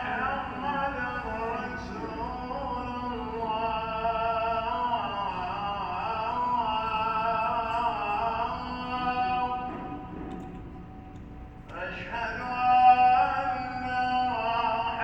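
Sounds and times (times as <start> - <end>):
person chanting: 0.0 - 10.1, 11.7 - 15.0.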